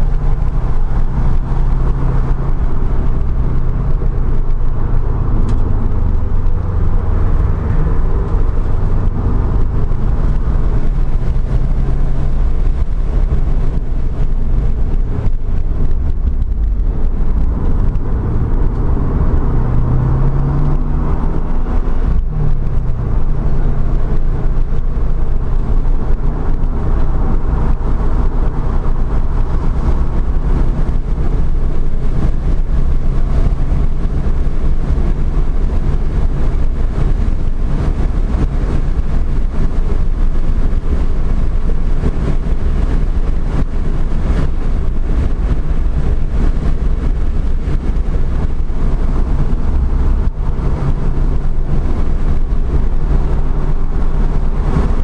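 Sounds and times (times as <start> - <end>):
car engine running hard: 0.0 - 55.0
road and wind noise: 0.0 - 55.0.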